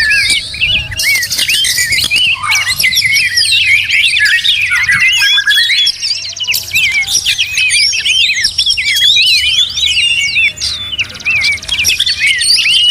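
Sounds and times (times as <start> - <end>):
songbirds singing: 0.0 - 12.9.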